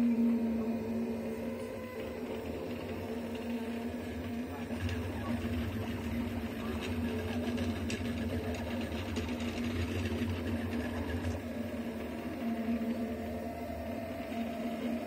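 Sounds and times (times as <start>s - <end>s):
constant low hum: 0.0s - 15.0s
stepper motors whirring: 0.0s - 15.0s.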